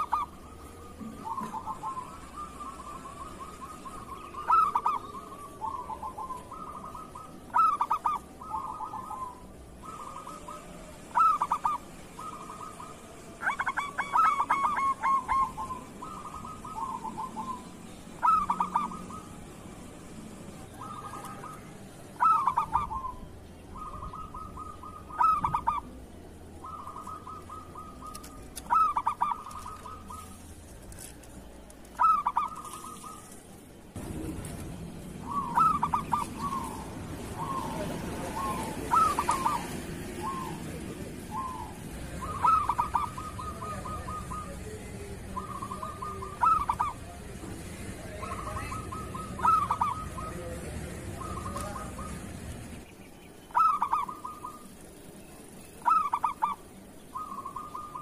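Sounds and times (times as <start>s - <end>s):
dove cooing: 0.0s - 52.8s, 53.5s - 58.0s.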